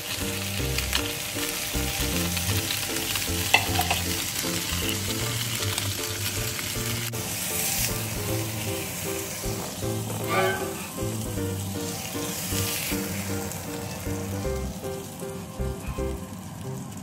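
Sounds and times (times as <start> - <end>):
dumplings sizzling in frying pan: 0.0 - 17.0.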